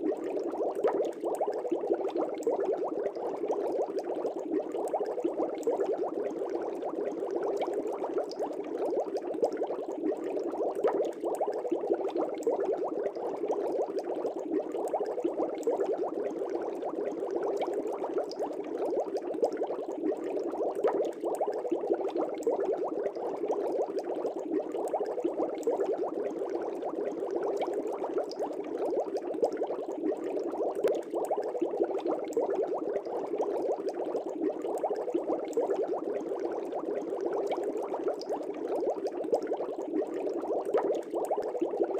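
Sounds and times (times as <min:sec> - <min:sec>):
aquarium air bubbles gurgling: 0:00.0 - 0:41.9.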